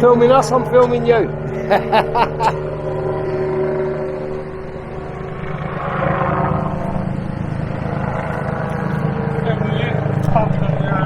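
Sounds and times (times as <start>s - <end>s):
engine running with low throb: 0.0s - 11.0s.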